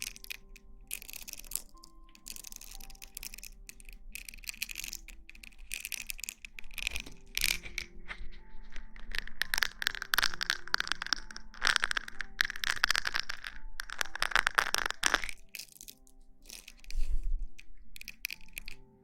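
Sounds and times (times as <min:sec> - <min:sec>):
rustling and crinkling: 0:00.0 - 0:19.0
soft background music: 0:00.0 - 0:19.0.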